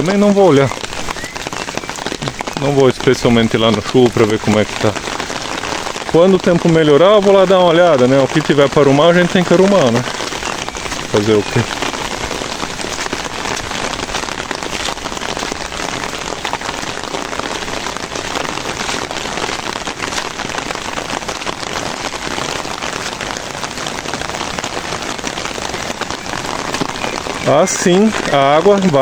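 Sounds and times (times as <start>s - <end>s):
rain falling on wet ground: 0.0s - 29.0s.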